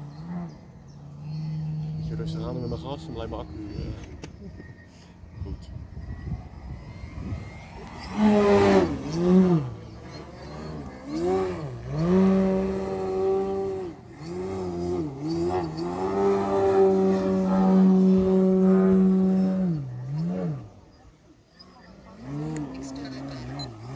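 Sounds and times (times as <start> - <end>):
model plane motor buzzing: 0.0 - 23.9.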